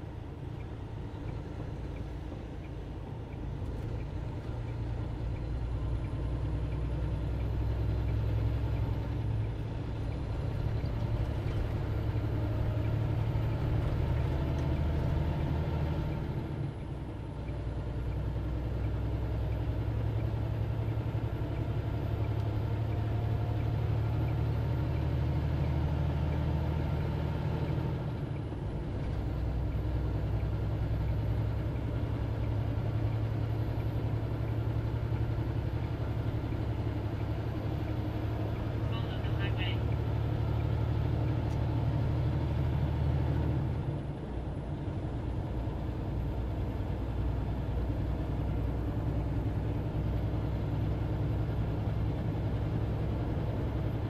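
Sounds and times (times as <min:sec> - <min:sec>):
truck diesel engine pulling: 0:00.0 - 0:54.0.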